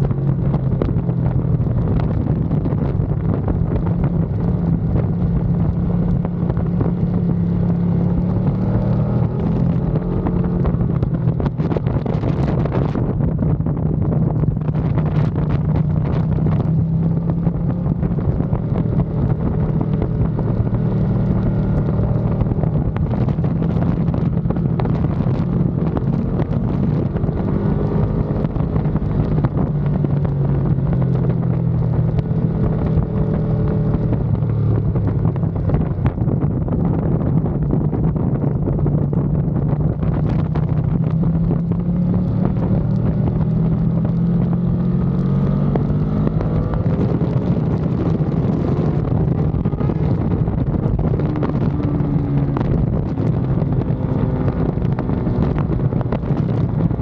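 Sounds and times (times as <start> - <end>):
motorcycle engine at speed: 0.0 - 57.0
wind noise on microphone: 0.0 - 57.0.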